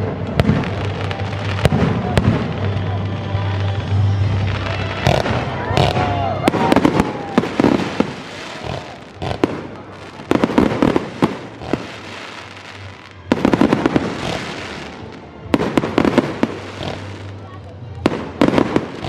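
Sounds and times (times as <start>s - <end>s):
firework bangs: 0.0s - 17.4s, 18.0s - 19.0s
firework crackling: 0.0s - 19.0s.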